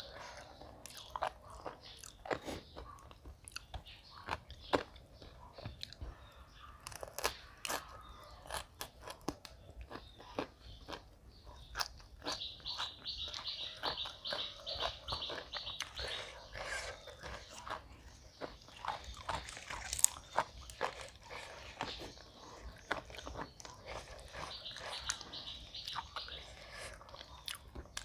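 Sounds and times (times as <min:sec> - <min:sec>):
crunchy chewing: 0:00.0 - 0:28.0.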